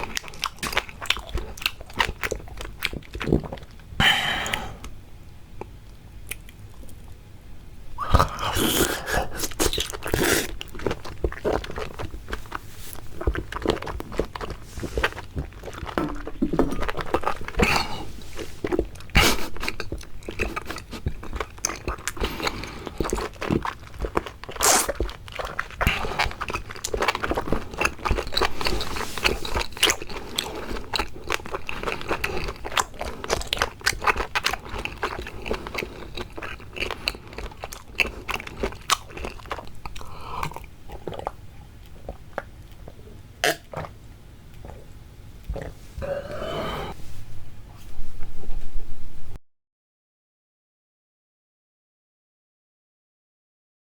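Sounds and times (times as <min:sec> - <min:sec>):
person chewing seafood: 0:00.0 - 0:05.0, 0:08.0 - 0:47.0.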